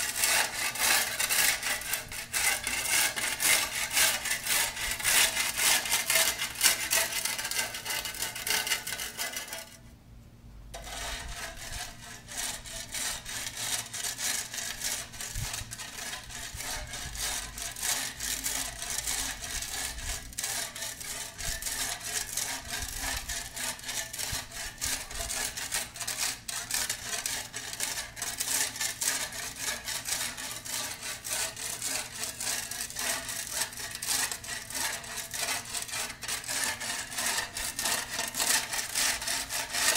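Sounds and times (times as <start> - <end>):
shovel scraping concrete: 0.0 - 9.8, 10.8 - 39.9.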